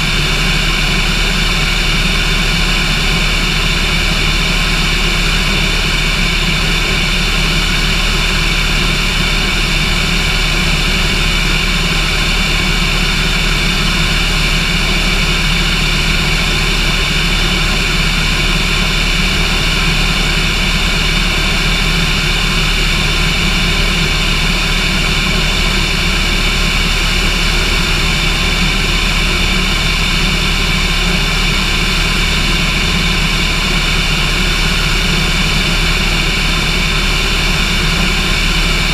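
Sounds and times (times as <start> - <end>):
light aircraft engine droning: 0.0 - 38.9.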